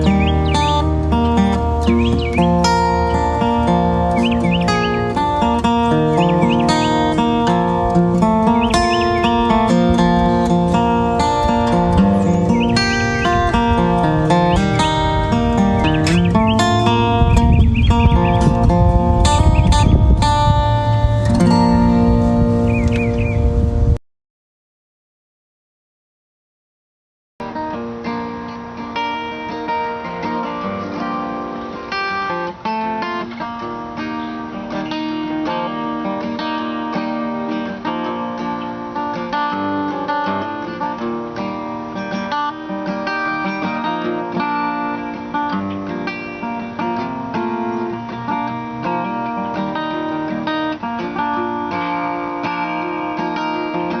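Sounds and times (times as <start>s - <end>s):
acoustic guitar strumming: 0.0s - 24.0s, 27.4s - 54.0s.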